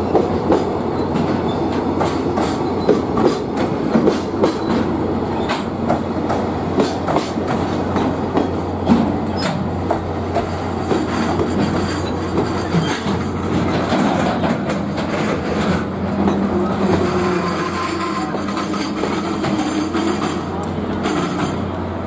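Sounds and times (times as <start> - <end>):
train wheels rumbling on rail: 0.0 - 22.0
wheels clacking over rail joints: 0.0 - 22.0.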